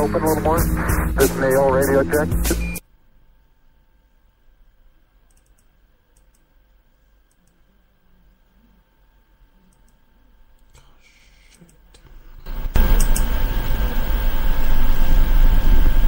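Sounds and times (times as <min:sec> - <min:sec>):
faint hum and hiss: 0:00.0 - 0:16.0.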